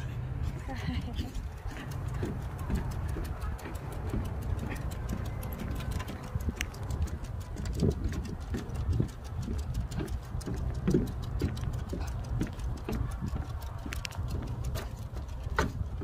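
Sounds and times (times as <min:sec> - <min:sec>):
footsteps on wooden boardwalk: 0:00.4 - 0:16.0.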